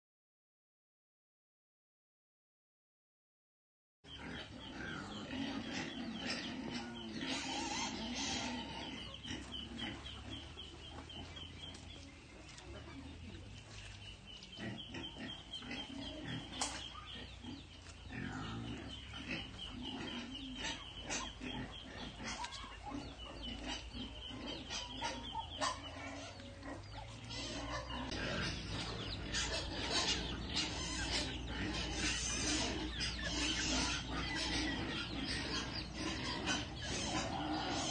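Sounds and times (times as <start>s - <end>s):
low grunt-like animal calls: 4.1s - 12.0s, 14.5s - 37.9s.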